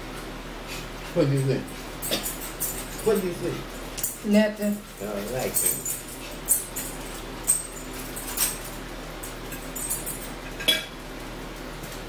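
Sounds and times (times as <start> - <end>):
forks clinking against plates: 1.2 - 11.0.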